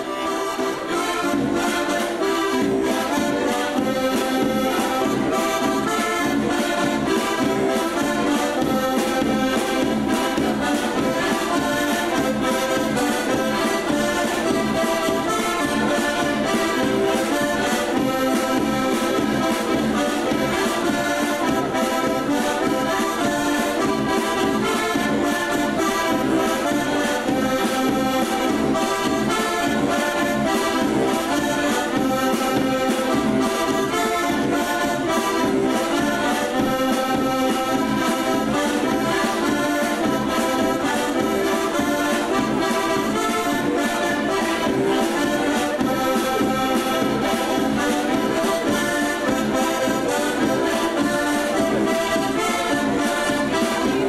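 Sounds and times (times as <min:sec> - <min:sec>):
button accordions playing folk tune: 0:00.0 - 0:54.0.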